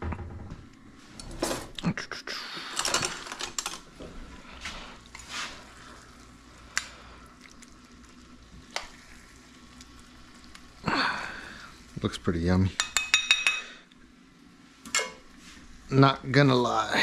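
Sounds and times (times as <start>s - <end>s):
faint sizzle: 2.1s - 17.0s.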